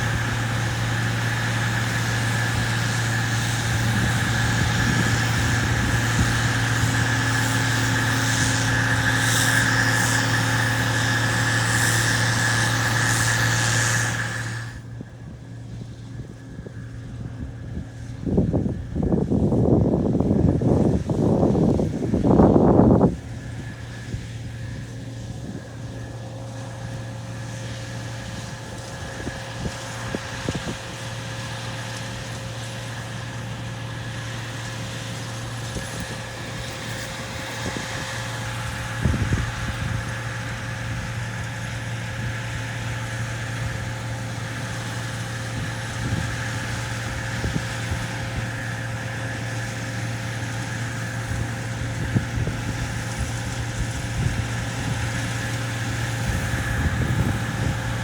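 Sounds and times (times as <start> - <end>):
farm machinery engine droning: 0.0 - 58.0.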